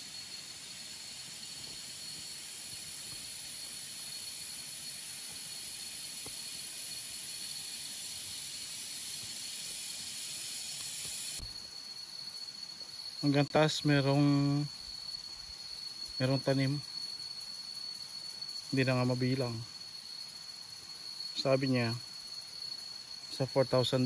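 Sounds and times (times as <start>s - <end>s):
forest insects hissing: 0.0s - 24.0s.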